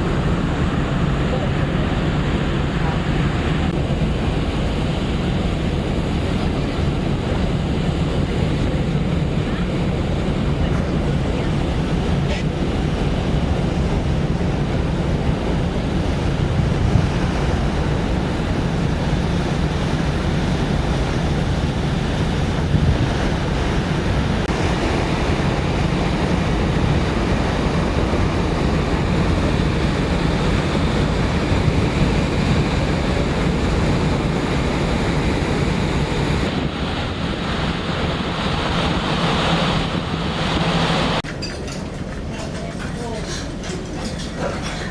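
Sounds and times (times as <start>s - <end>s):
ship engines droning: 0.0s - 44.9s
wind and sea rushing: 0.0s - 44.9s
wind buffeting microphone: 0.0s - 44.9s.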